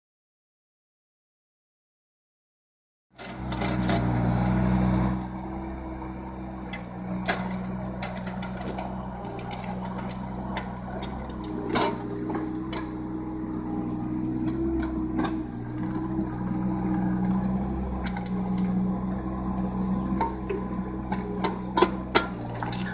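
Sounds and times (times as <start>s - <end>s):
excavator diesel engine running: 3.2s - 22.9s.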